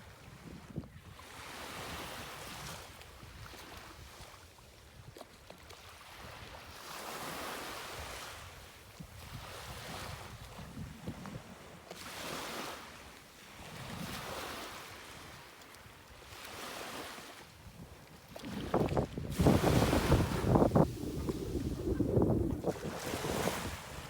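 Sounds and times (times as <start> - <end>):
small waves washing on beach: 0.0 - 24.0.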